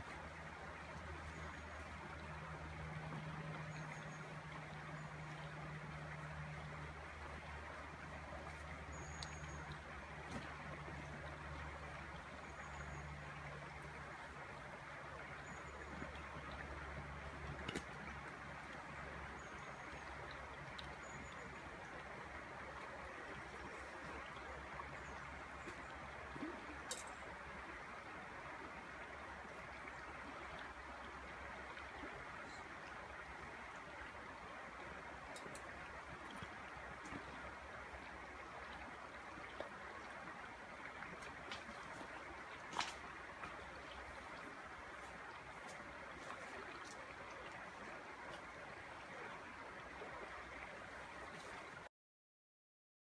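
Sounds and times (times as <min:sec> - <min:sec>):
low steady hum: 0:00.0 - 0:51.8
river running over cobbles: 0:00.0 - 0:51.9.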